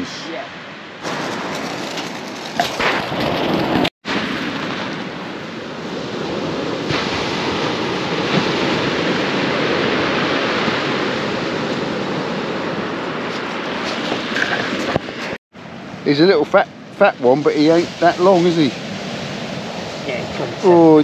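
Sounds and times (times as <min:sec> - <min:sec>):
surf washing up shingle beach: 0:01.0 - 0:16.4, 0:17.1 - 0:21.0.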